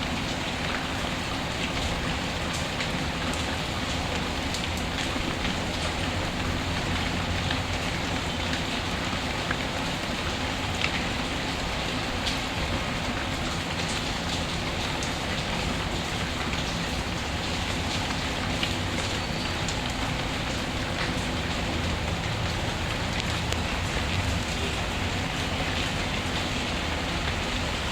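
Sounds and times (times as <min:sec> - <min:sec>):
steady rain: 0:00.0 - 0:27.9.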